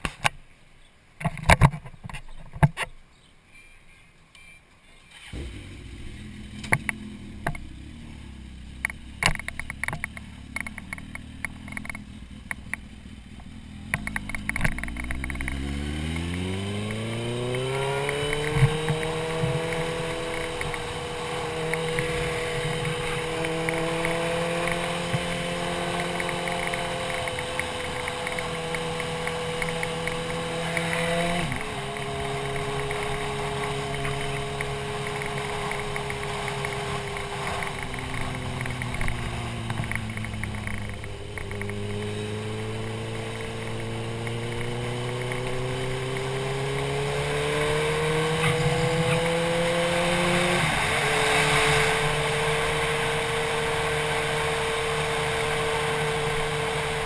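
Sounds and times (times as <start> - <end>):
motorcycle engine running: 5.2 - 57.0.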